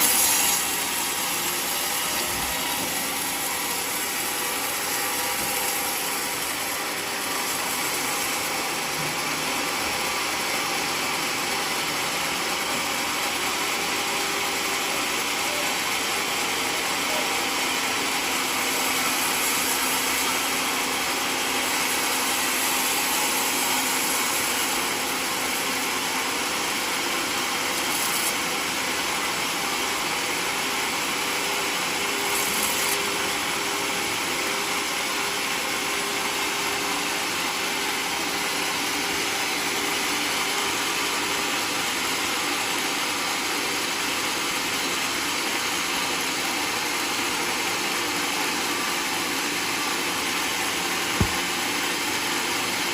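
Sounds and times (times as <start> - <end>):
sawmill running with high hiss: 0.0 - 52.9.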